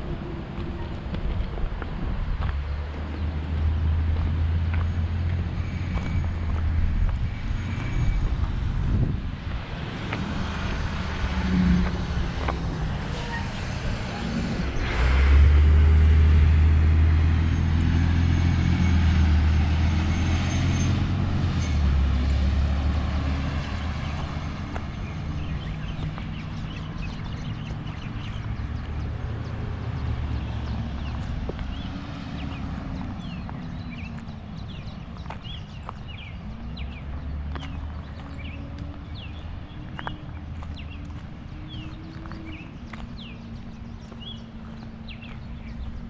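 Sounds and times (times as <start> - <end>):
large engine humming: 0.0 - 46.0.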